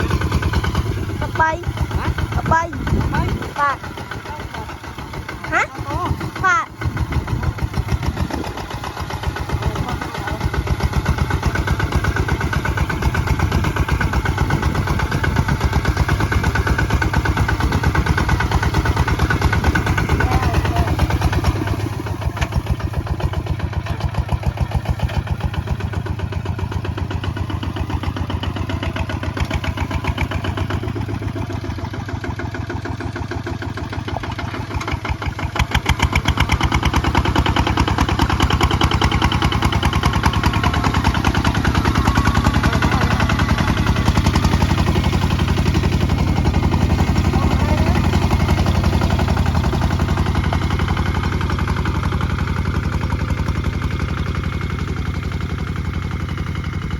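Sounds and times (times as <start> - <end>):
diesel engine running under load: 0.0 - 56.9.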